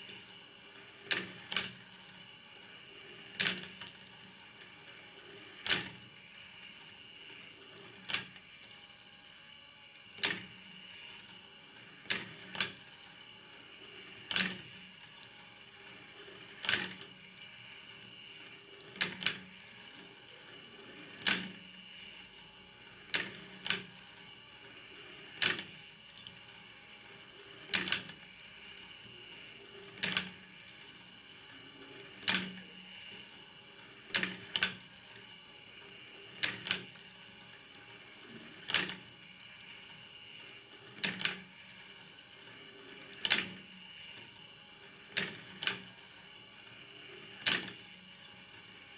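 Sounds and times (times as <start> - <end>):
faint steady hum: 0.0 - 48.9.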